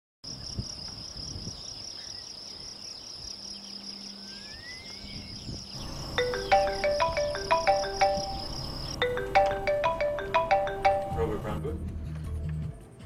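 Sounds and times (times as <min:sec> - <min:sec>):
crickets chirping: 0:00.3 - 0:11.1.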